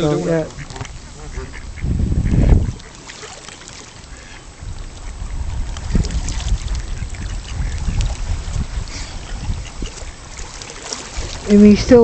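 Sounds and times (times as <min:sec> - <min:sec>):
wind buffeting microphone: 0:00.0 - 0:03.0, 0:04.0 - 0:12.0.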